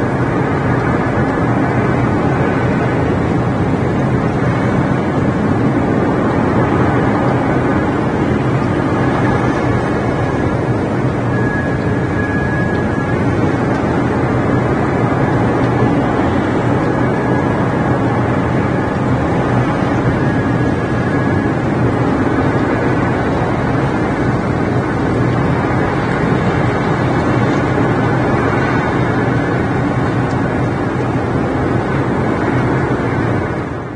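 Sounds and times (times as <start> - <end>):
rain on microphone: 0.0 - 33.9.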